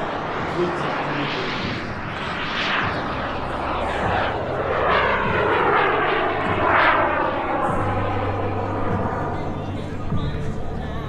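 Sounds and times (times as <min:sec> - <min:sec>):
model jet turbine flying overhead: 0:00.0 - 0:11.0.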